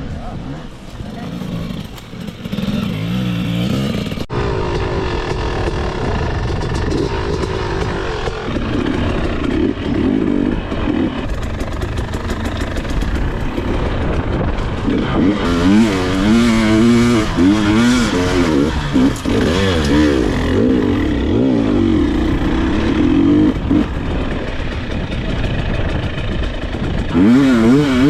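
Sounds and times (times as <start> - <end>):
dirt bike engine revving: 1.0 - 28.0.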